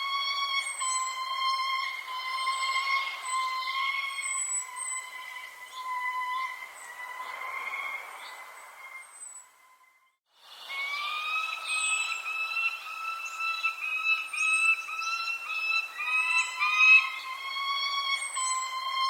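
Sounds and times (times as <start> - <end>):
steady whistling tone: 0.0 - 19.0
high falling bird chirps: 0.3 - 19.0.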